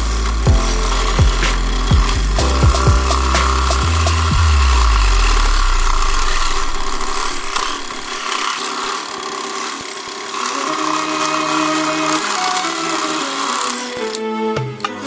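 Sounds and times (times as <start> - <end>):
tool rasping into wood: 0.0 - 14.2.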